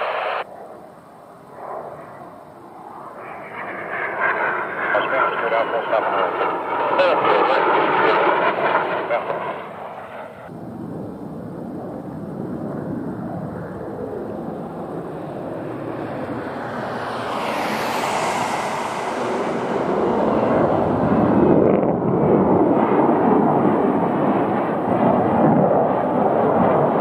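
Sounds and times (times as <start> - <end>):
jet aircraft noise: 0.0 - 27.0.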